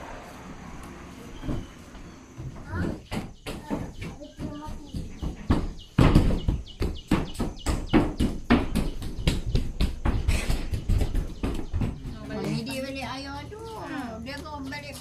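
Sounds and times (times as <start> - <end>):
child running on wooden floor: 1.3 - 13.4.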